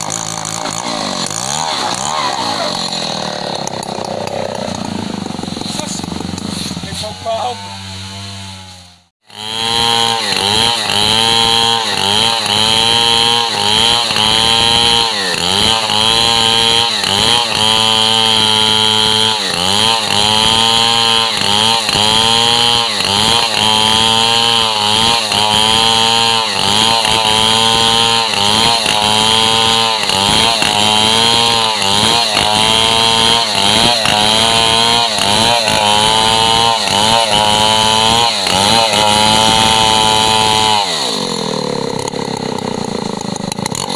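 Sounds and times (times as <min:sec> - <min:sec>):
chainsaw cutting timber: 0:00.0 - 0:43.9.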